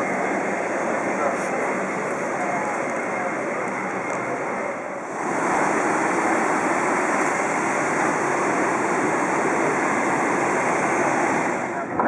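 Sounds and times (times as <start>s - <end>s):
airliner cabin engine and airflow roar: 0.0s - 12.0s.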